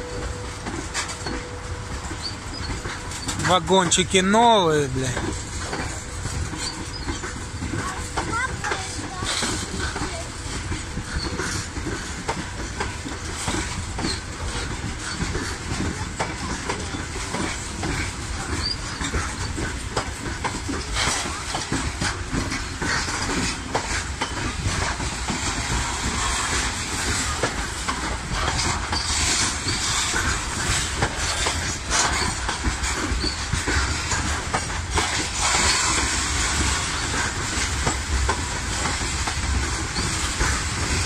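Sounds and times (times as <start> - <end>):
freight train rumble and rattle: 0.0 - 41.0
train wheels clicking over rail joints: 0.0 - 41.0.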